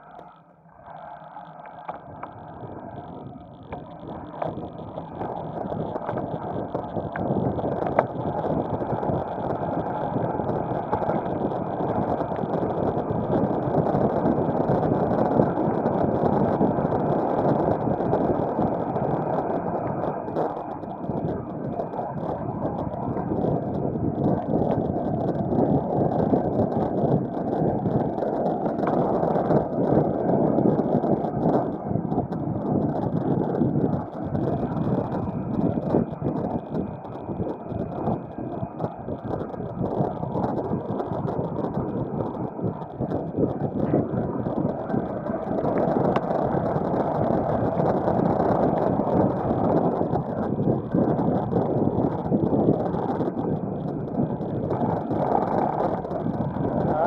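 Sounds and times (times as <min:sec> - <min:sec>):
wind rushing over microphone: 0:01.8 - 0:57.0.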